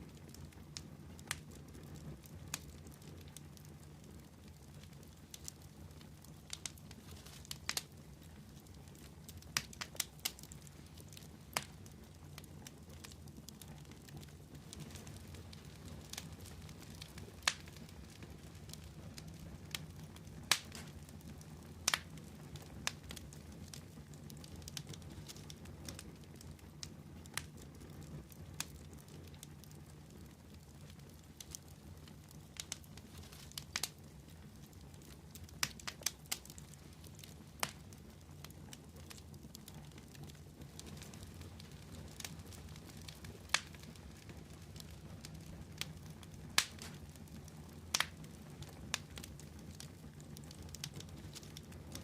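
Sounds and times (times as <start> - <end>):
fire crackles and pops: 0.0 - 52.0
wood fire rumbling: 0.0 - 52.0.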